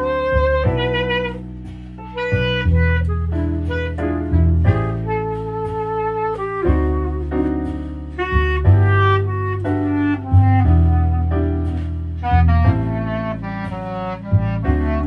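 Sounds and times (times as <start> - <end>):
clarinet: 0.0 - 15.0
low sustained bass notes: 0.0 - 15.0
saxophone: 0.0 - 15.0.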